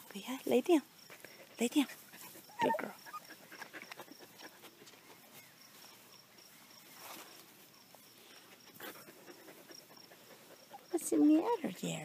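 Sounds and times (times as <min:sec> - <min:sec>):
cricket chirping: 0:00.2 - 0:12.0
soft rustles: 0:01.1 - 0:10.9.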